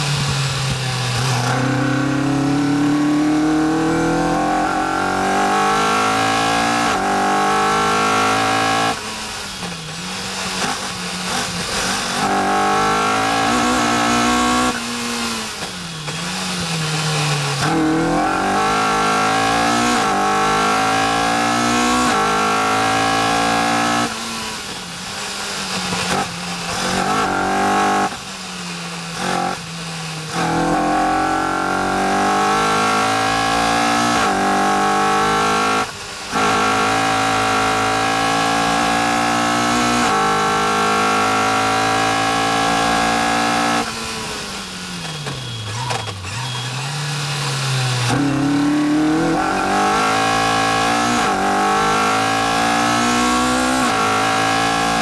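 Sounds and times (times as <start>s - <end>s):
car engine accelerating hard: 0.0s - 24.8s, 25.4s - 28.3s, 29.1s - 55.0s.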